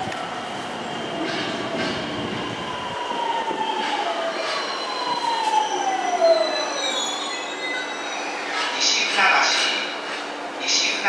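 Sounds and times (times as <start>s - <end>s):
wheels rumbling and squealing on rail: 0.0s - 11.0s.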